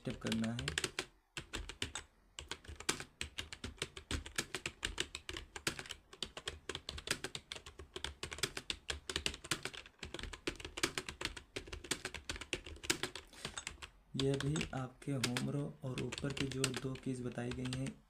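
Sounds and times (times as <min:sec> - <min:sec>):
fast typing on keyboard: 0:00.0 - 0:18.0.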